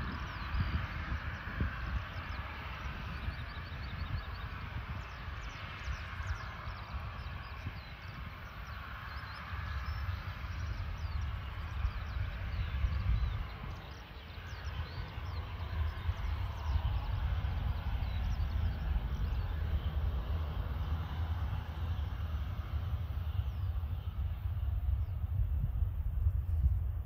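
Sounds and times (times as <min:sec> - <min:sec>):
small birds chirping: 0:00.0 - 0:26.9
jet engine rumble: 0:00.0 - 0:27.0
wind buffeting microphone: 0:00.0 - 0:27.0.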